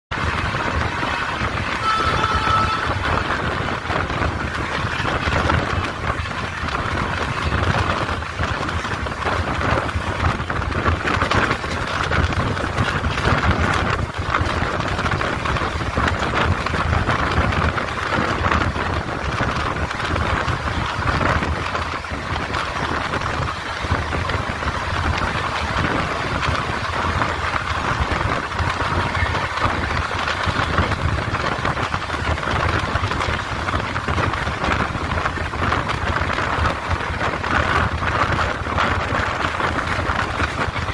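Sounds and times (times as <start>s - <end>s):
train rumbling: 0.1s - 40.9s.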